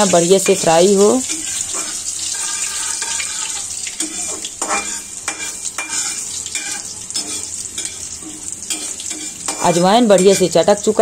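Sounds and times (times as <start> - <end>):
oil sizzling in metal pan: 0.0 - 11.0
spatula scraping pan: 0.3 - 11.0.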